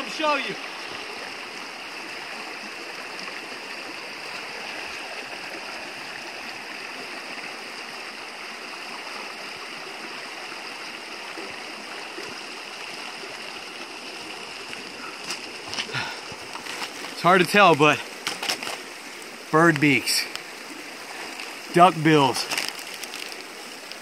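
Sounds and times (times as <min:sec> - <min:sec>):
stream running water: 0:00.0 - 0:24.0.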